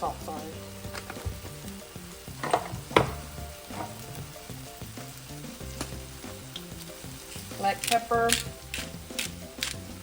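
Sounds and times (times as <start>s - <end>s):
meat sizzling in a skillet: 0.0s - 10.0s.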